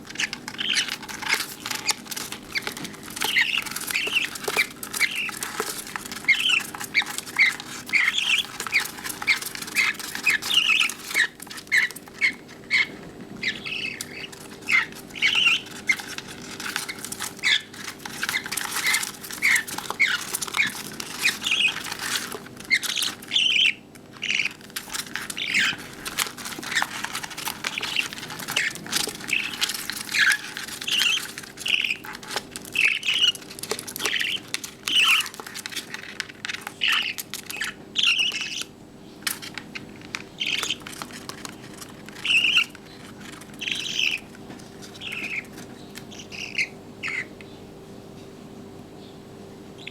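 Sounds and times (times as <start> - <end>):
bird chicks squawking: 0.0 - 48.0.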